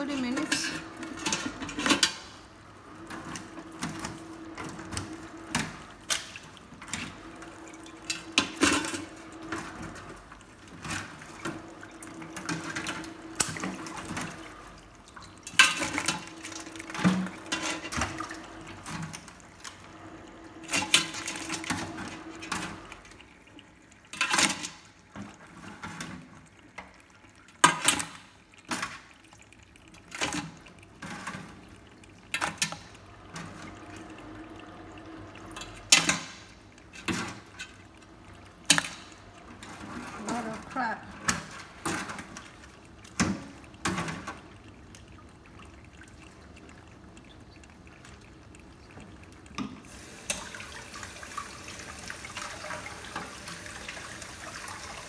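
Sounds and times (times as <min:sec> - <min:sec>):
faint steady hum: 0:00.0 - 0:55.0
water dripping and splashing: 0:00.0 - 0:55.0.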